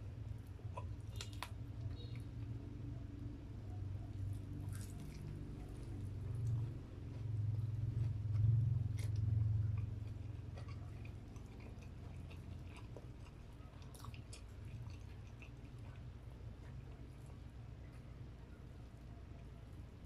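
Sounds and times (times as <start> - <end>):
person chewing crispy food: 0.1 - 2.9, 4.1 - 18.5.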